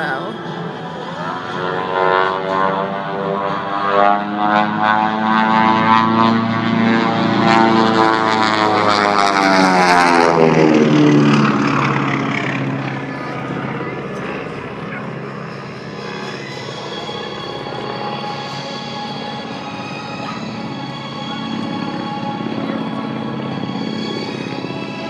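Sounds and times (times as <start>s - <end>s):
propeller aircraft engine: 0.0s - 25.0s.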